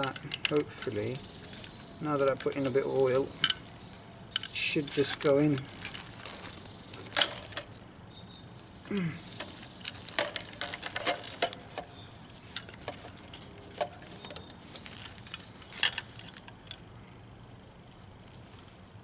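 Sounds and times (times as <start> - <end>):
plastic parts clicking and knocking: 0.0 - 7.8, 9.3 - 16.8.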